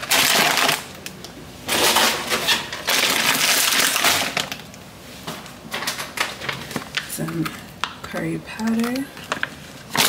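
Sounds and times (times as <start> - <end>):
plastic packaging crinkling: 0.0 - 4.8, 5.7 - 10.0.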